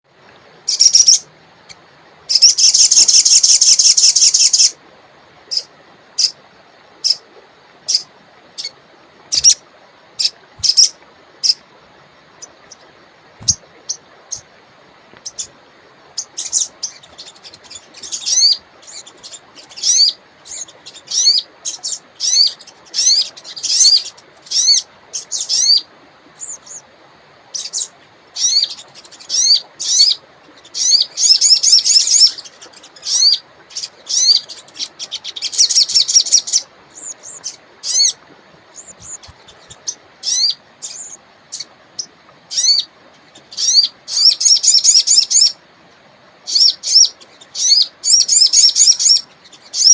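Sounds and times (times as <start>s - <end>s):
bird chirping and trilling: 0.7s - 4.8s, 7.9s - 9.6s, 10.2s - 11.6s, 13.4s - 14.5s, 15.2s - 26.8s, 27.5s - 45.6s, 46.5s - 49.9s
river rushing: 3.9s - 44.6s.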